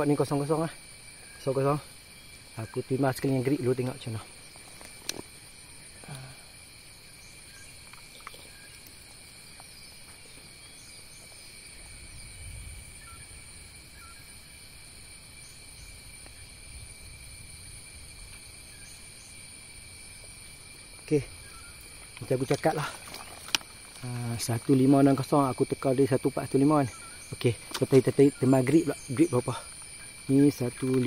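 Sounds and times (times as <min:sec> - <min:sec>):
high-pitched insect chorus: 0:00.0 - 0:31.0.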